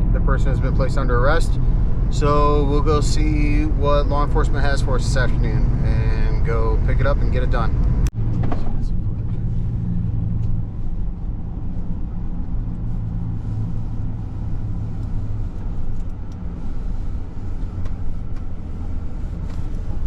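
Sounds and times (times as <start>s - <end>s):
tow truck engine running: 0.0s - 20.0s.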